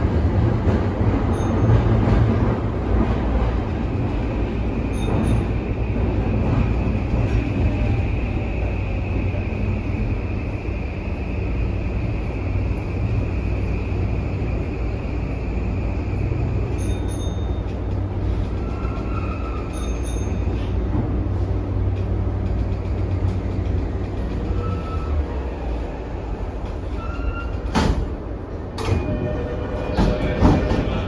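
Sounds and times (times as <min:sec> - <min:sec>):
wheels rumbling on rail: 0:00.0 - 0:31.0.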